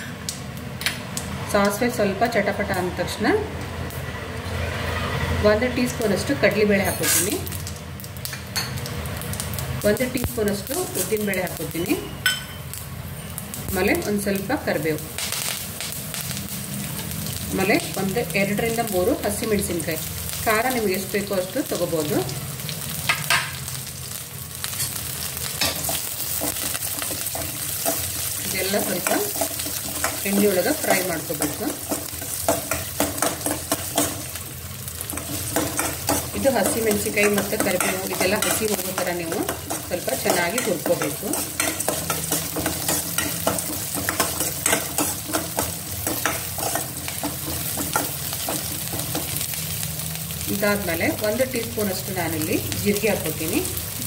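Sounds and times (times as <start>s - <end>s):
spices sizzling in hot oil: 0.0s - 54.0s.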